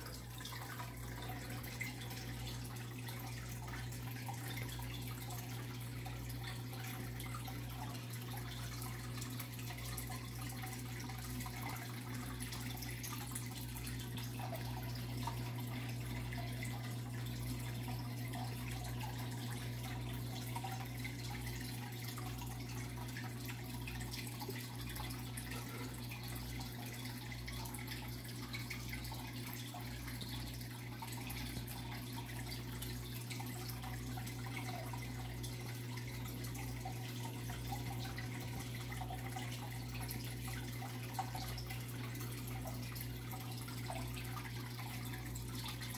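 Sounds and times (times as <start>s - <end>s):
filter hum: 0.0s - 45.9s
water trickling and splashing: 0.0s - 45.9s.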